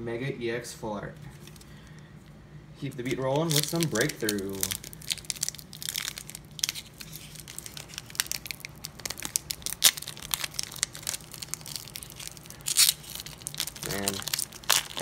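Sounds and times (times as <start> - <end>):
foil wrapper crinkling and tearing: 1.3 - 2.0, 2.8 - 15.0.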